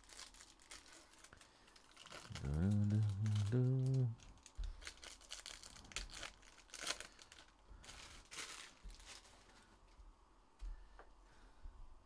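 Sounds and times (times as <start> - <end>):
foil wrappers crinkling and tearing: 0.0 - 9.8.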